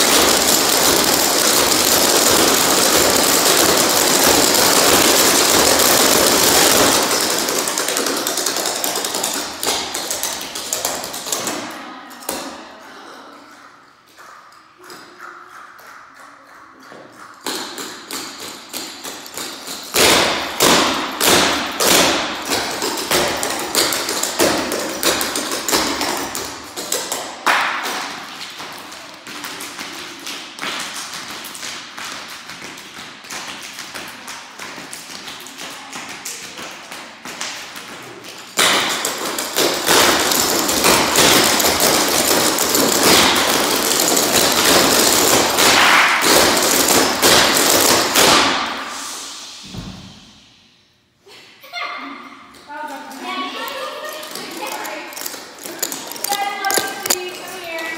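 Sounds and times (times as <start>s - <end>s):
dancers' shoes tapping hard floor: 0.0s - 11.7s, 16.9s - 48.8s, 53.3s - 57.9s.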